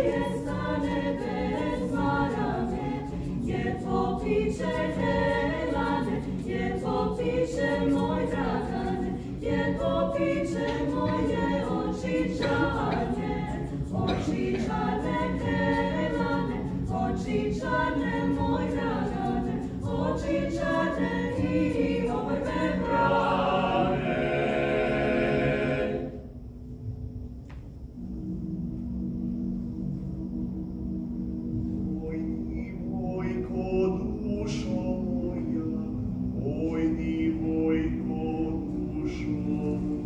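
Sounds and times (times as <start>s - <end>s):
mixed choir singing a cappella: 0.0s - 26.4s, 31.7s - 40.0s.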